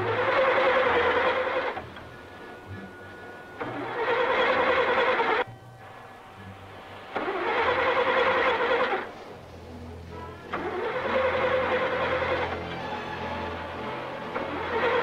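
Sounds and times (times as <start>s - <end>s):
car starter motor cranking: 0.0s - 5.5s, 6.7s - 15.0s.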